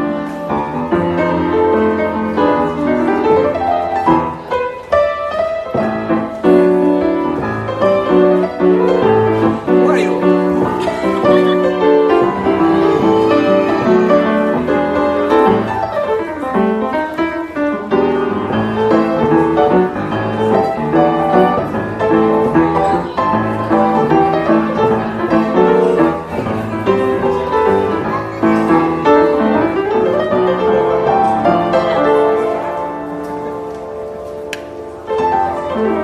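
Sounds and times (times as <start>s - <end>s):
piano playing: 0.0s - 36.0s.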